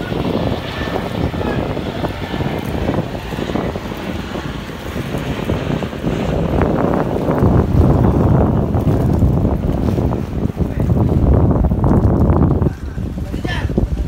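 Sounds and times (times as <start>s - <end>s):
outboard motors running: 0.0s - 14.0s
wind buffeting microphone: 0.0s - 14.0s.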